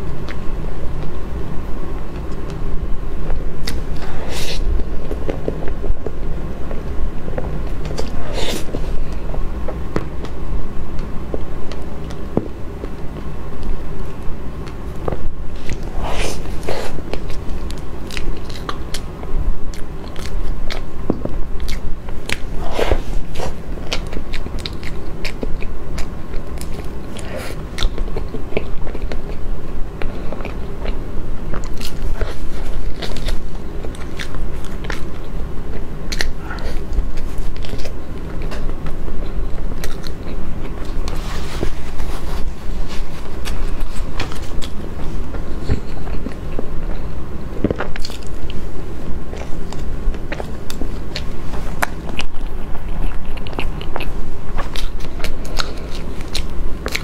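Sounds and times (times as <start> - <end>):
person chewing: 1.8 - 57.0.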